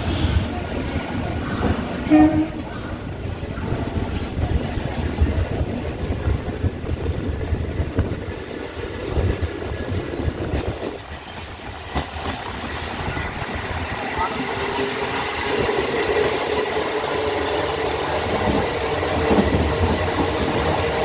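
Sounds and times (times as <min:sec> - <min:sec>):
passing train rumble: 0:00.0 - 0:21.0.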